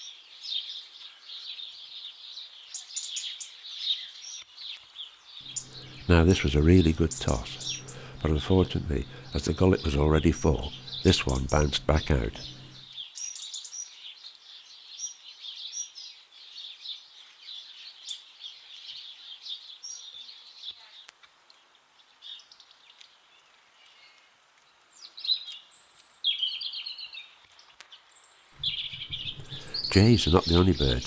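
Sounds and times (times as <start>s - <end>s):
songbirds chirping and twittering: 0.0s - 31.0s.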